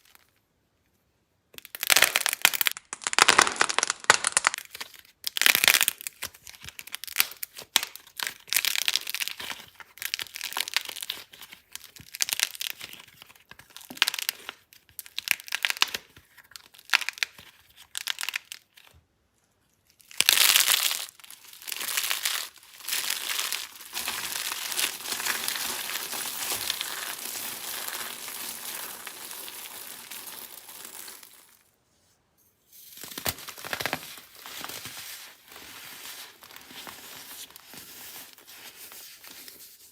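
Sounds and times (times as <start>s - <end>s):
dry soap crackling and crunching: 1.6s - 31.8s, 32.9s - 39.9s.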